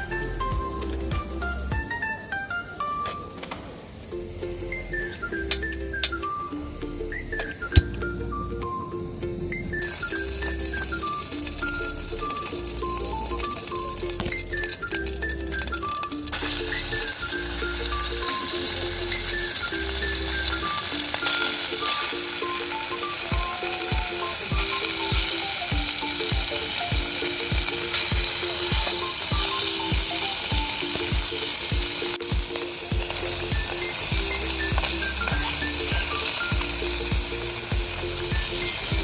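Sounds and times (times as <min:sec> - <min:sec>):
background music with beat: 0:00.0 - 0:39.0
food sizzling in a pan: 0:00.0 - 0:39.0.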